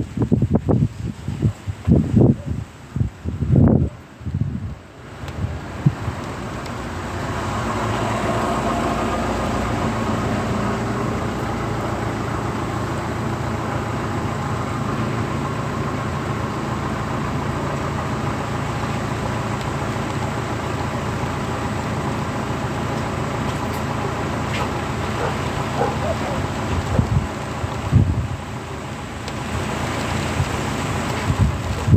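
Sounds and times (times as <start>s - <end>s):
road traffic noise: 0.0s - 31.9s.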